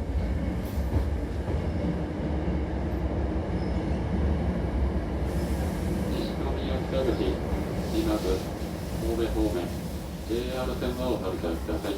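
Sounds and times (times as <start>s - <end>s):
train rumbling on rails: 0.0s - 11.9s.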